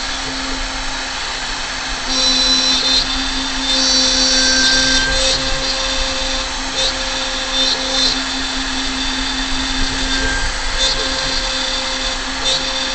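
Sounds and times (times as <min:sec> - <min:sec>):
cutting hiss: 0:00.0 - 0:12.9
router motor whine: 0:00.0 - 0:12.9.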